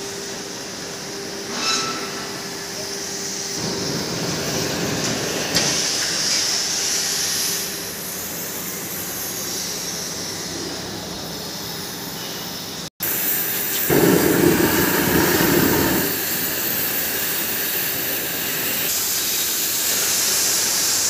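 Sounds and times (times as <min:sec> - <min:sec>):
hissing rushing workshop noise: 0:00.0 - 0:21.0.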